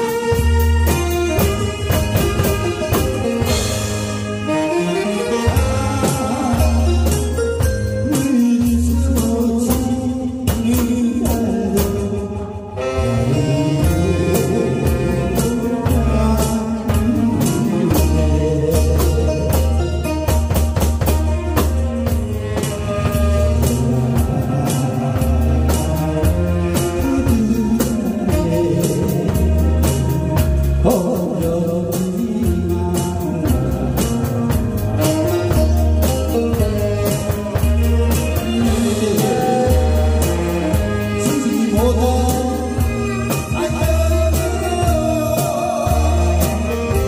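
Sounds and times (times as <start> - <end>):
bass line: 0.0 - 47.0
drum kit steady beat: 0.0 - 47.0
saxophone: 0.0 - 47.0
man singing into a microphone: 4.5 - 20.2, 22.5 - 47.0.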